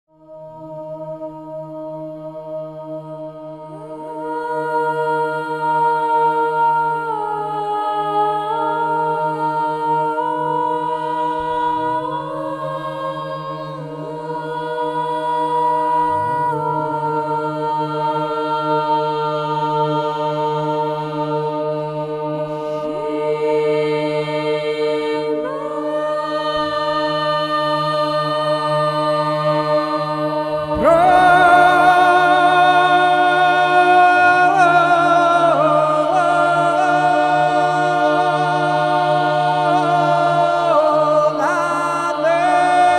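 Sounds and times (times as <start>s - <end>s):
unaccompanied church chant: 0.0s - 42.9s.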